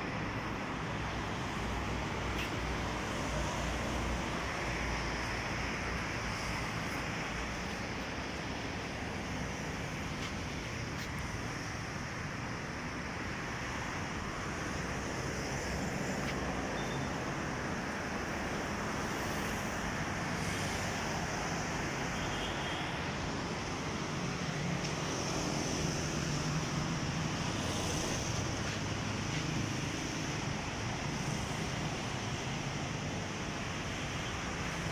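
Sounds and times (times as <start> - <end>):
road traffic noise: 0.0 - 34.9.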